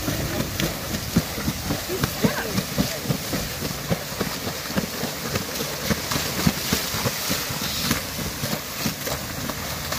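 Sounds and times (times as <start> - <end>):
shark thrashing and splashing: 0.0 - 9.9
waves washing: 0.0 - 9.9.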